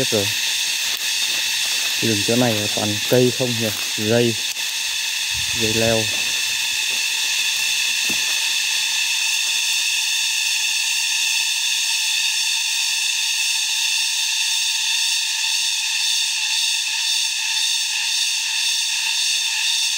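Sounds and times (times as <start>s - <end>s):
cicadas buzzing: 0.0s - 19.9s.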